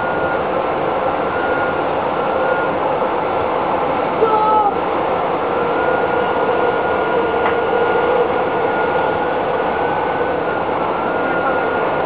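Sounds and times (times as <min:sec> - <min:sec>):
high whine: 0:00.0 - 0:12.0
metro train rumble and hiss: 0:00.0 - 0:12.0.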